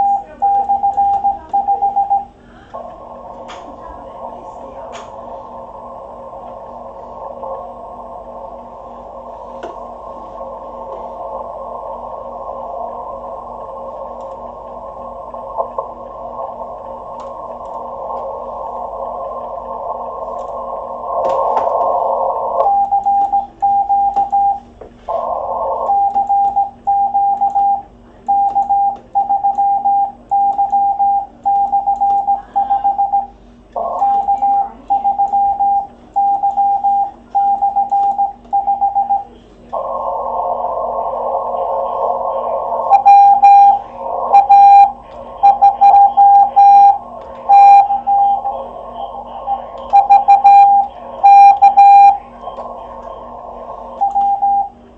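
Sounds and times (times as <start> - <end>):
morse code tone: 0.0 - 2.3, 5.4 - 54.8
receiver hiss: 0.0 - 54.9.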